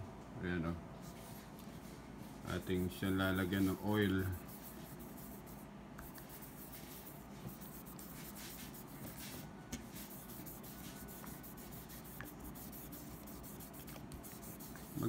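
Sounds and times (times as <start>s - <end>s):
applicator scratching on fretboard: 2.6s - 15.0s.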